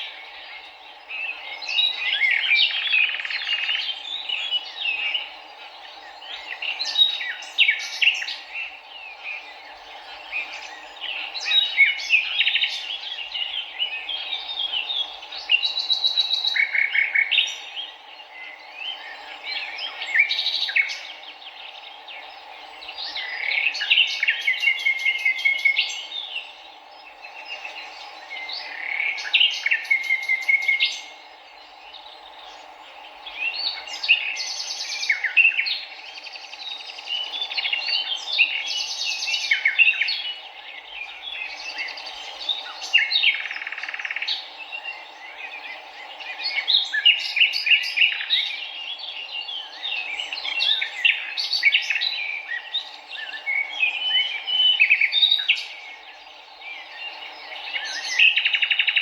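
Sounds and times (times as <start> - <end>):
wild birds chirping and trilling: 0.0 - 59.0.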